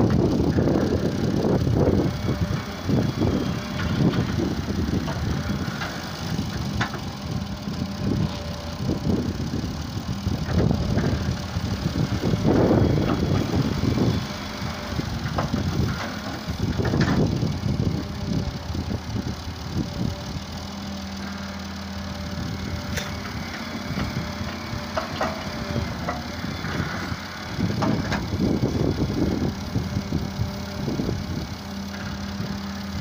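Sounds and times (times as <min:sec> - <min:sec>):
excavator diesel engine: 0:00.0 - 0:33.0
tractor idling: 0:00.0 - 0:33.0.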